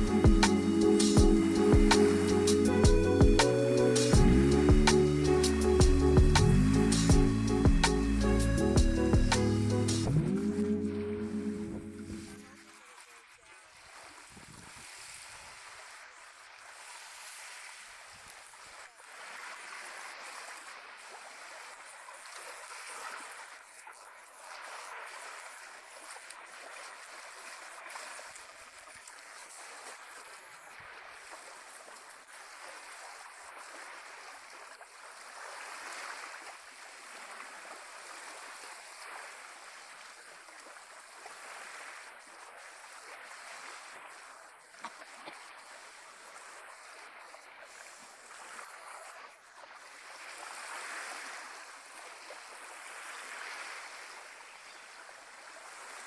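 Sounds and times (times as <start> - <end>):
small waves lapping at shore: 0.0 - 56.0.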